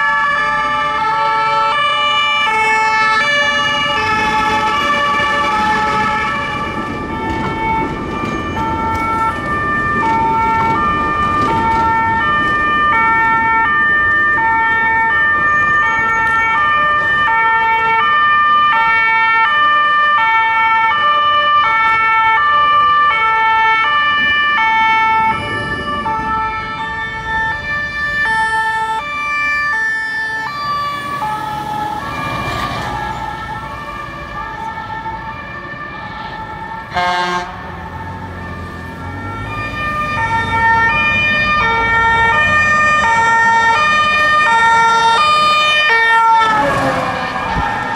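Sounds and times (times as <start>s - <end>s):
engines and traffic rumble: 0.0s - 47.9s
two-tone sirens: 0.0s - 47.9s.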